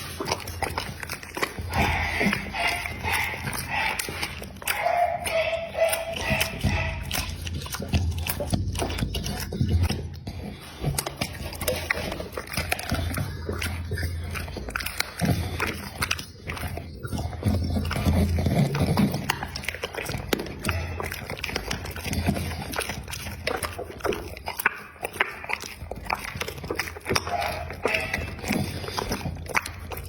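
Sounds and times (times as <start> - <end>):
dog chewing food: 0.0 - 30.0.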